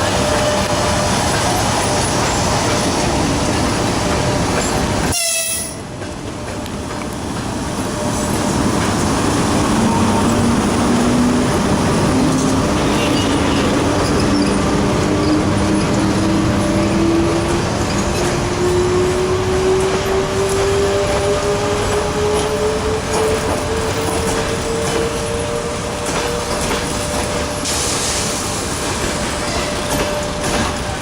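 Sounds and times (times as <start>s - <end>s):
electric locomotive mechanical noise: 0.0s - 31.0s.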